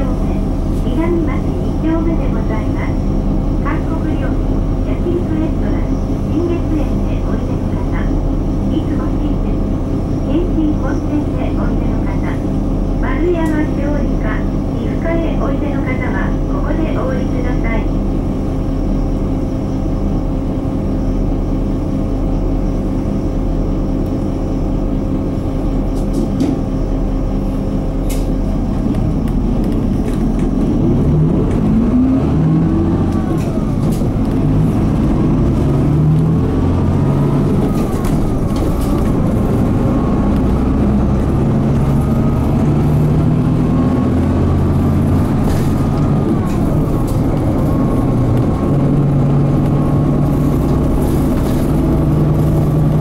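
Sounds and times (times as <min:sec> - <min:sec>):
bus diesel engine: 0:00.0 - 0:53.0.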